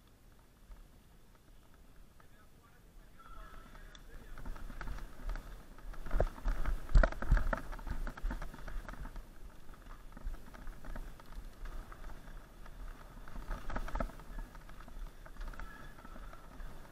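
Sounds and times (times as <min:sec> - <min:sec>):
bike rattling over bumps: 0:00.0 - 0:16.9
tyres rolling on dirt: 0:00.0 - 0:16.9
wind rumble: 0:00.0 - 0:16.9.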